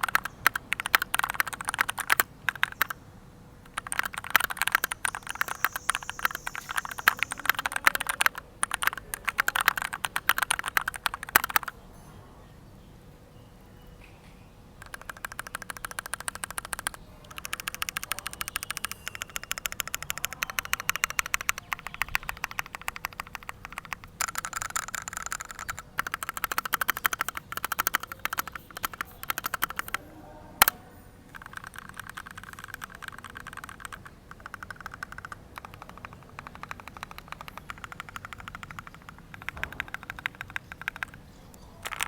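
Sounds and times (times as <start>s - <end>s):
mechanical keyboard typing: 0.0s - 3.0s, 3.6s - 11.7s, 14.8s - 30.0s, 30.6s - 42.0s.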